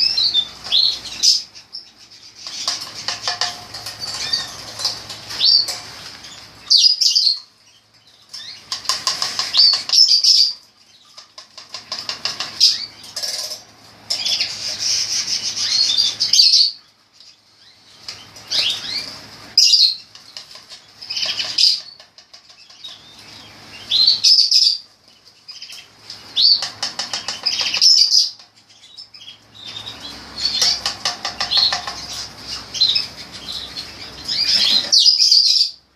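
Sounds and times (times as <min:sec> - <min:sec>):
canaries singing trilled phrases: 0:00.0 - 0:35.9.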